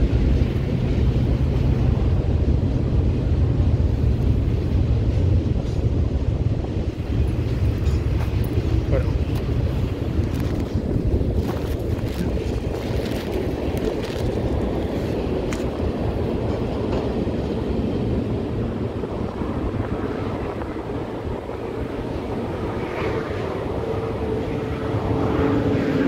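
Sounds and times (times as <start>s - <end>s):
freight cars rumbling on rails: 0.0s - 26.0s.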